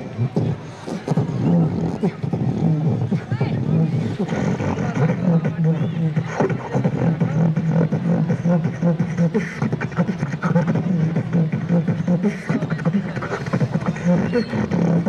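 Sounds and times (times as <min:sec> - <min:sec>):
beatboxing mouth-drum beats: 0:00.0 - 0:15.0.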